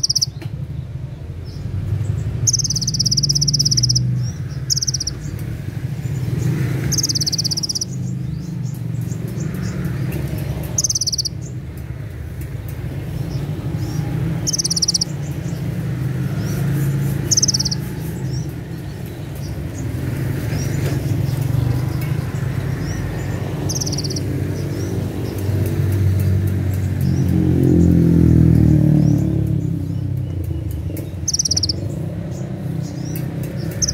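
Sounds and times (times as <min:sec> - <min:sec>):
bird singing buzzy trills: 0:00.0 - 0:33.9.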